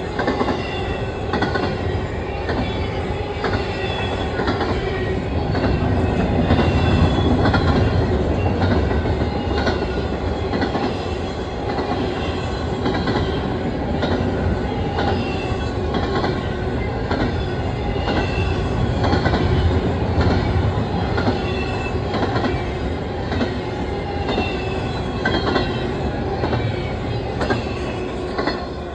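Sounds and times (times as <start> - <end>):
freight train rumbling: 0.0 - 28.9.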